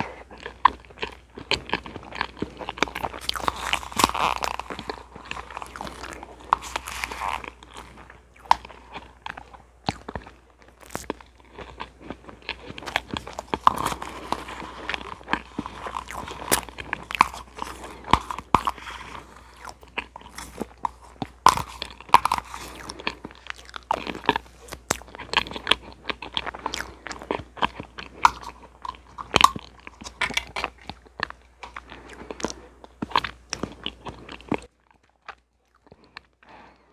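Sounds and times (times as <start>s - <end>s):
wet chewing: 0.0s - 36.9s.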